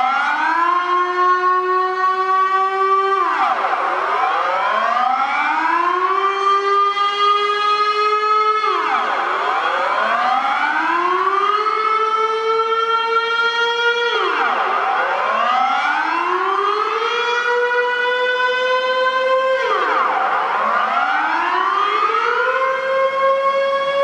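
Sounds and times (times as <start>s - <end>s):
warning siren wailing: 0.0s - 24.0s.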